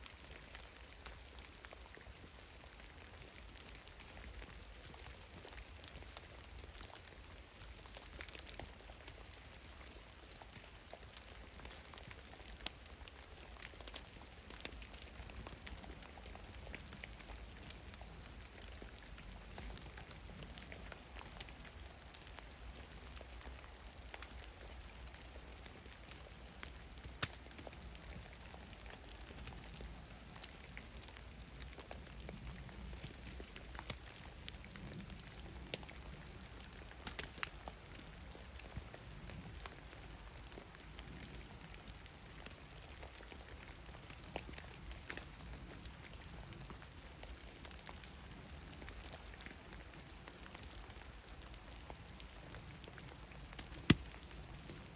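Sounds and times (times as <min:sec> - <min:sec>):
faint steady hiss: 0:00.0 - 0:54.9
water drops pattering on snow: 0:00.4 - 0:45.3, 0:50.3 - 0:54.9.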